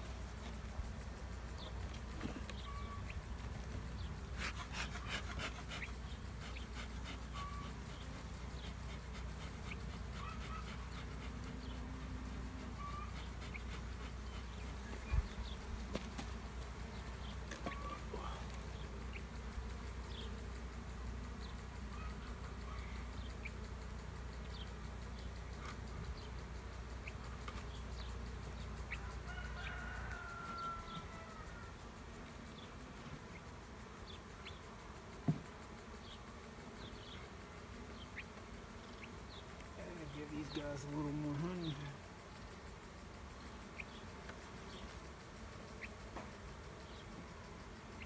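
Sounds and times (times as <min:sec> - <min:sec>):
honeybees buzzing: 0:00.0 - 0:48.0.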